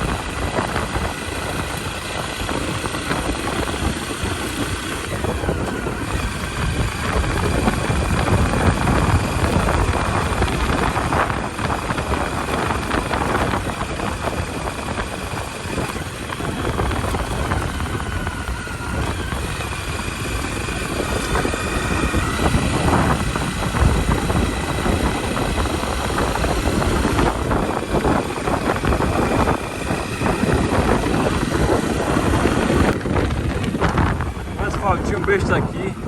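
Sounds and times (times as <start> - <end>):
motorcycle engine: 0.0 - 36.0.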